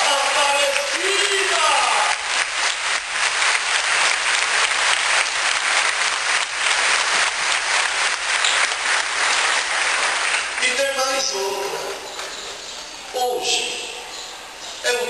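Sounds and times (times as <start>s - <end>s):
crowd clapping: 0.0s - 12.4s.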